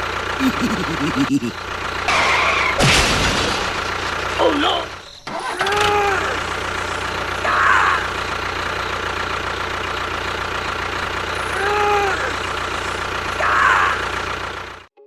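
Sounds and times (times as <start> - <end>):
small engine running: 0.0 - 14.9.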